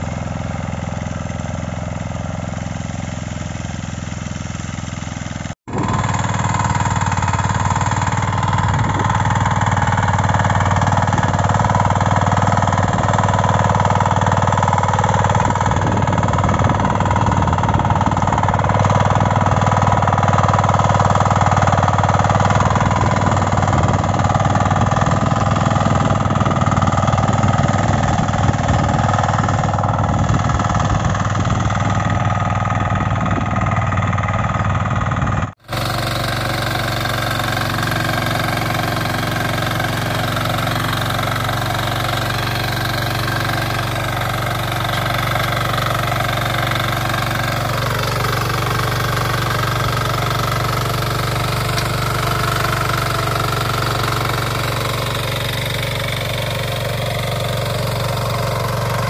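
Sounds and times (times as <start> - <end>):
diesel engine running: 0.0 - 59.0
tines tilling dry soil: 0.0 - 59.0.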